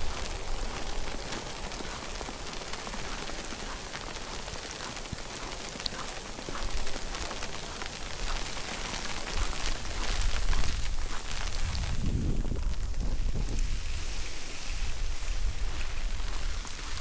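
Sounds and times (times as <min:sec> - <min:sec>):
falling snow pattering: 0:00.0 - 0:17.0
wind rumble on microphone: 0:00.0 - 0:17.0.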